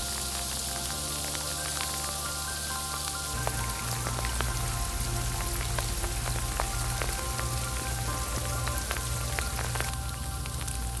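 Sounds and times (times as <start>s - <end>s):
sleet pattering on frozen leaves: 0.0s - 11.0s.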